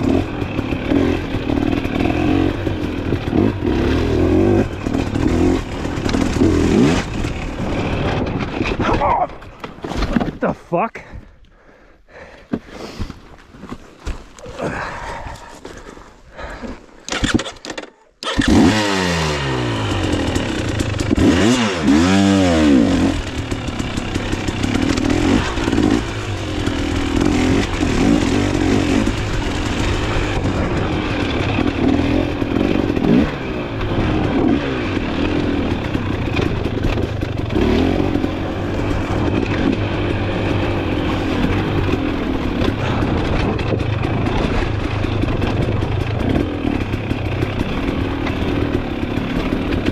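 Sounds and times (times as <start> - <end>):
dirt bike engine revving: 0.0 - 8.9, 17.1 - 49.9.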